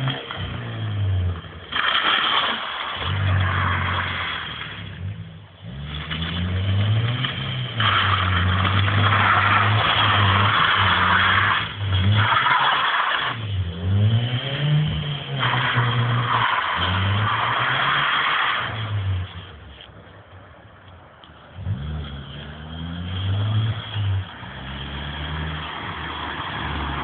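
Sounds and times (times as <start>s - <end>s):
car engine revving hard: 0.0s - 19.2s, 21.6s - 27.0s.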